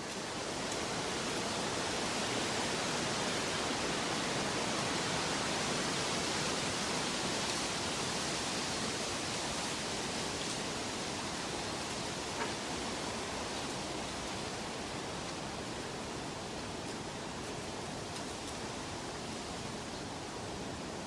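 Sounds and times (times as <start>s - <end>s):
water rushing: 0.1s - 21.0s.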